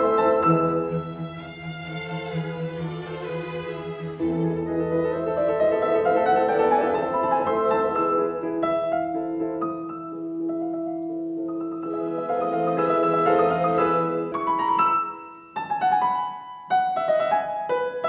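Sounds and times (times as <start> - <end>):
slow strings and piano music: 0.0 - 18.0.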